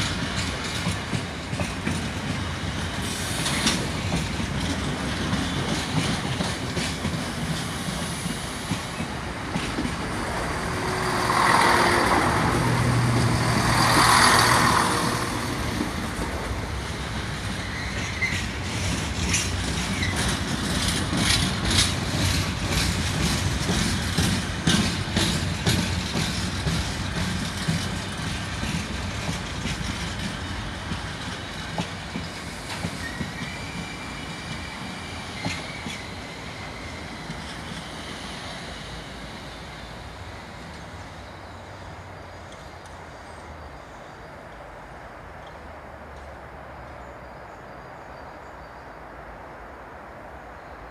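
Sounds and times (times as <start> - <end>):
wheels clicking over rail joints: 0.0 - 43.4
diesel train passing: 0.0 - 50.9
freight train rolling past: 0.0 - 50.9.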